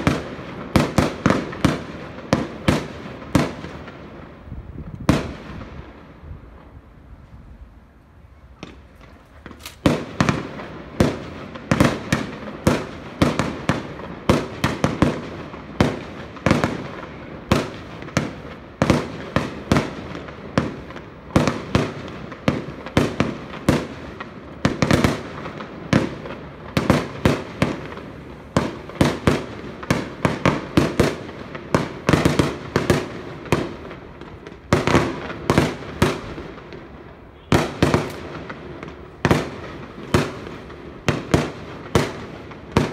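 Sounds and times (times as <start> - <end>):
fireworks banging: 0.0 - 6.8, 8.4 - 42.9.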